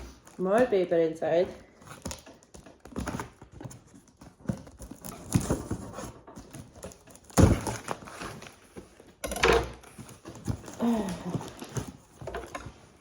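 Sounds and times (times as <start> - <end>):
packing paper rustling and crumpling: 0.0 - 9.2, 9.8 - 13.0.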